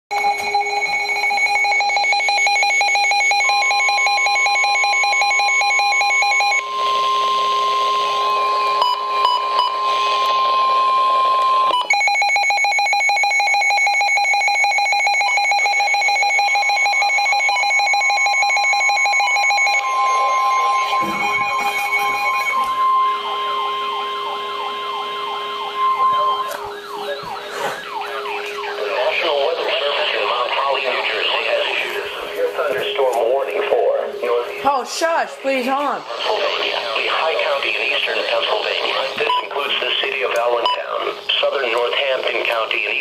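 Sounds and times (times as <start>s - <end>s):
rapid electronic beeping alarm: 0.1s - 43.0s
steady warning tone: 0.1s - 43.0s.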